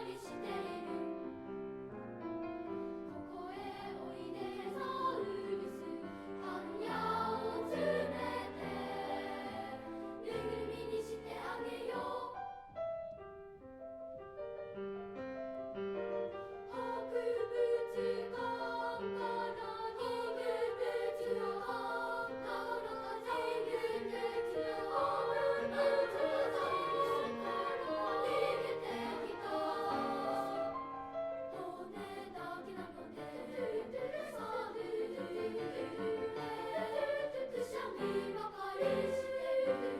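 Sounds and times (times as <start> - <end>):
children's choir singing: 0.0 - 1.5, 3.1 - 12.8, 16.6 - 39.9
piano accompaniment: 0.0 - 39.9.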